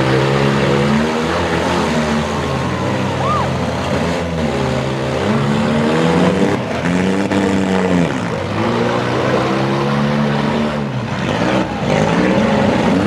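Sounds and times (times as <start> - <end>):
car engines revving: 0.0 - 13.0
steady engine noise: 0.0 - 13.0.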